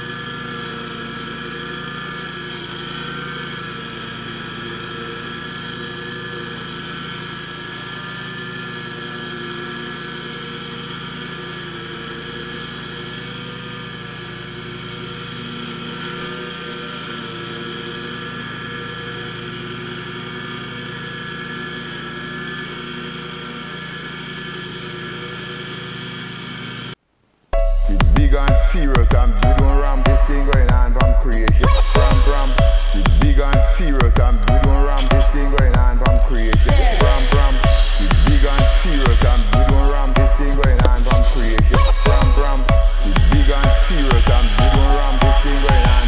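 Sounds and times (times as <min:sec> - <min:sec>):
mower engine running: 0:00.0 - 0:27.0, 0:27.6 - 0:46.0.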